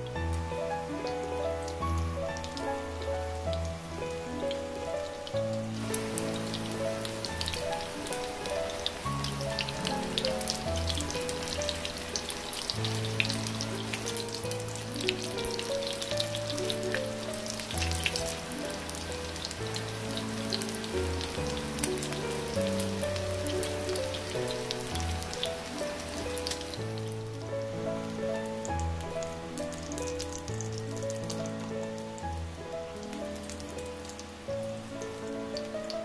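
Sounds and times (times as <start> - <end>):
background music: 0.0 - 36.0
oil sizzling in a pan: 0.0 - 36.0.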